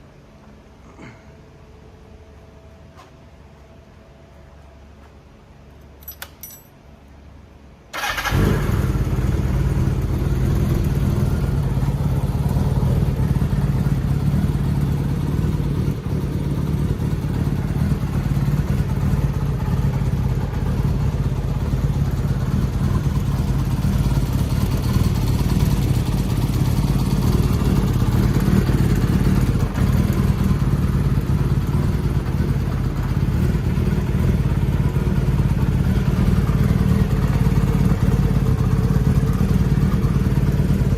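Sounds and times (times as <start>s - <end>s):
motorcycle engine starting and idling: 5.9s - 6.7s, 7.9s - 40.9s.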